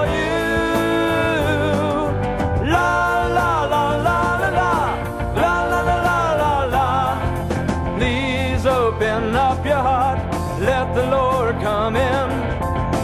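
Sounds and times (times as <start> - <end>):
gospel band music: 0.0 - 13.0.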